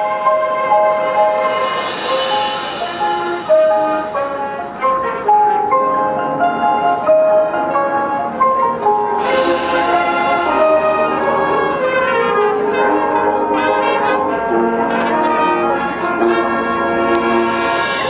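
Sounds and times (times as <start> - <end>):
marching band brass chords: 0.0 - 18.0.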